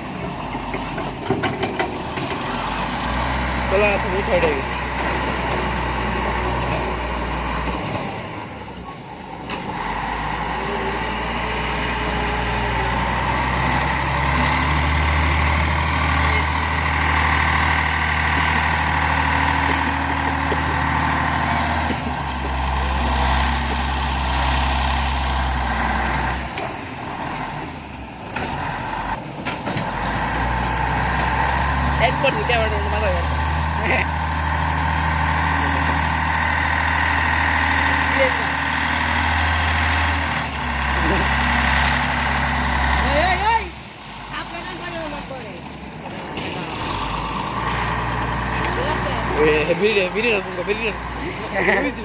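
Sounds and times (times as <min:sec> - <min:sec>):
diesel engine revving: 0:00.0 - 0:52.0.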